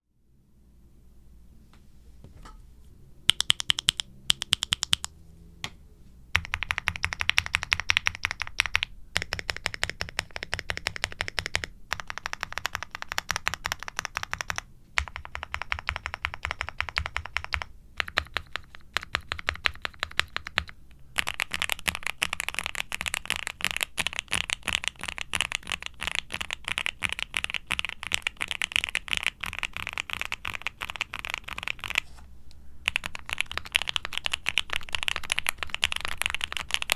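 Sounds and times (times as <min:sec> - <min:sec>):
mechanical keyboard typing: 0:03.3 - 0:05.1, 0:06.4 - 0:32.0, 0:32.9 - 0:36.9.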